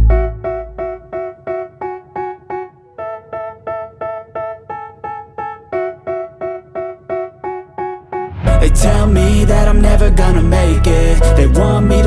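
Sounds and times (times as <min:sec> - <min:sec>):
electric piano background music: 0:00.0 - 0:12.0.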